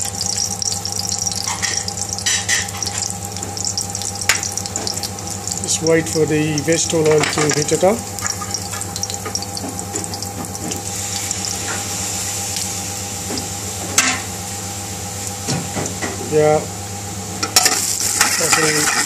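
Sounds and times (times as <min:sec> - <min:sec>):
oil crackling and sizzling: 0:00.0 - 0:16.0, 0:17.4 - 0:19.0
constant hum: 0:00.0 - 0:19.0.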